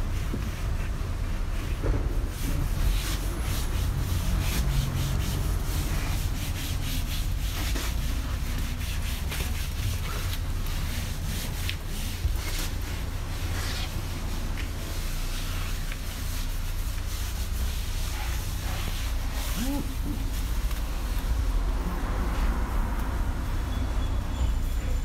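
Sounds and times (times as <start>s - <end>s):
wash mitt scrubbing car paint: 0.0s - 23.6s.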